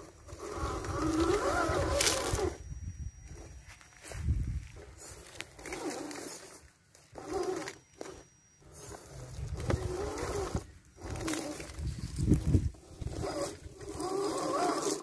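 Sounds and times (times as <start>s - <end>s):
electric motor and gearbox whining: 0.0s - 15.0s.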